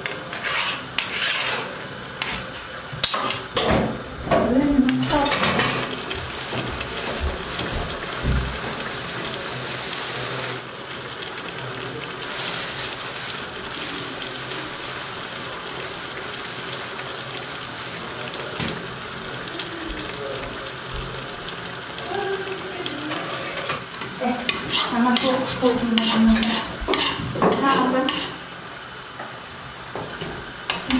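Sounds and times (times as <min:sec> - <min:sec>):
water boiling in a pot: 0:00.0 - 0:30.9.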